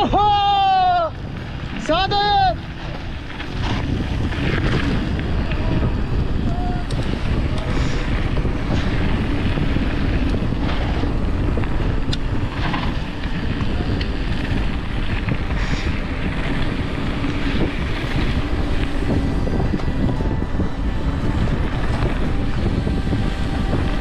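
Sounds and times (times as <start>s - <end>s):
bike clicks and rattles: 0.0s - 24.0s
bike tyres rumbling on rough ground: 0.0s - 24.0s
wind buffeting microphone: 0.0s - 24.0s.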